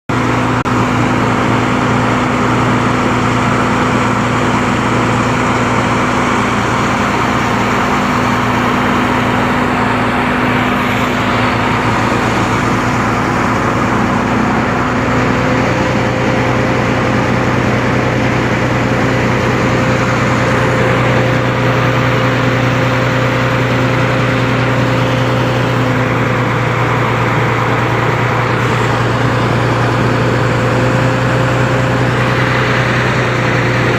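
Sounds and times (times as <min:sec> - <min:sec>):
engine humming steadily: 0:00.1 - 0:33.9.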